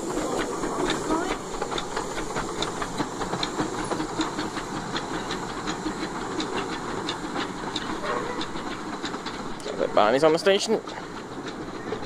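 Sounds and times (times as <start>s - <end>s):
steam hissing: 0.0s - 12.0s
wheels clicking over rail joints: 0.0s - 12.0s.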